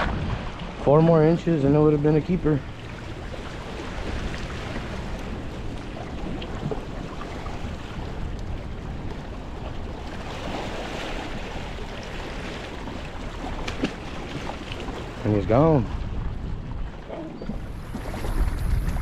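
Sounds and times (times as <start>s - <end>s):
waves washing in: 0.0s - 19.0s
wind buffeting microphone: 2.2s - 19.0s.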